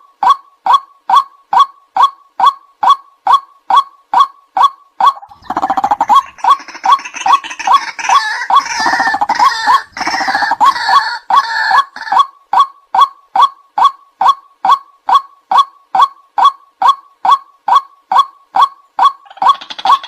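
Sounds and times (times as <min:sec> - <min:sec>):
bird repeated loud call: 0:00.0 - 0:20.0
harsh bird chattering: 0:00.2 - 0:20.0.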